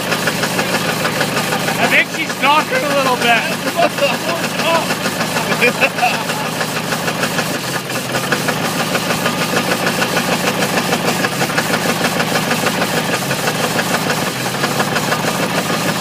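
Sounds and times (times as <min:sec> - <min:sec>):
engine running: 0:00.0 - 0:16.0
fast rhythmic engine knock: 0:00.0 - 0:16.0.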